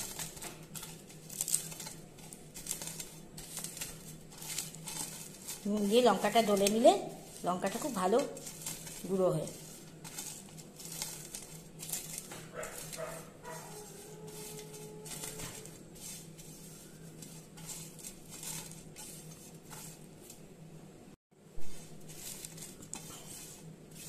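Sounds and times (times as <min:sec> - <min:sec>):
dried chillies crackling under fingertips: 0:00.0 - 0:20.4, 0:21.7 - 0:24.0.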